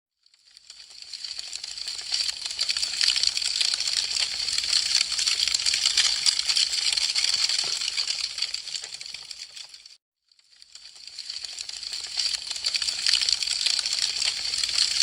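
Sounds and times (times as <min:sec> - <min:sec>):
wood fire crackling: 0:00.3 - 0:10.0, 0:10.6 - 0:15.0.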